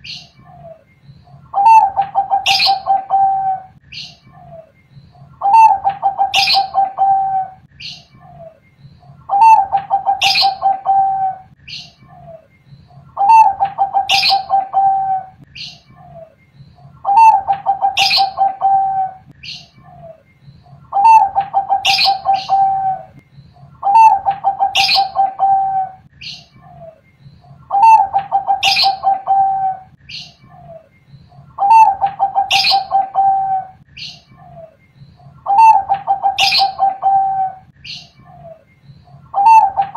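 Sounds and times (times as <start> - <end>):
dove cooing: 0.0 - 15.4, 16.0 - 39.9.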